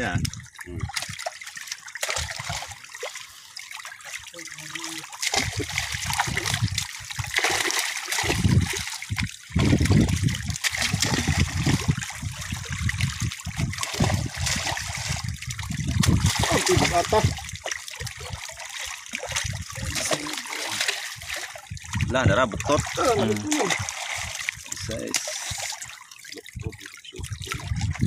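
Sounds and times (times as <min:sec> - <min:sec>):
fish splashing and thrashing: 0:00.0 - 0:28.0
hand net scooping water: 0:00.8 - 0:26.0.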